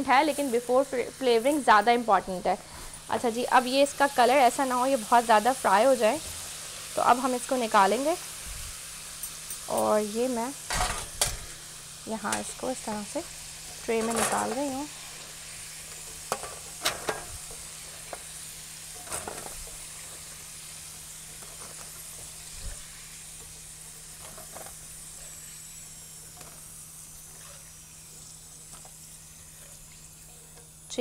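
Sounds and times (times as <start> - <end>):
chips sizzling in hot oil: 0.0 - 31.0.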